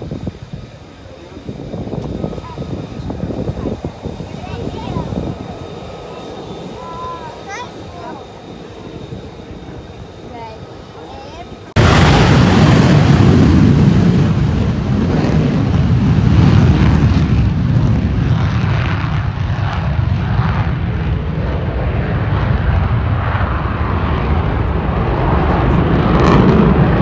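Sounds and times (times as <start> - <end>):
fighter jet flying overhead: 0.0 - 27.0.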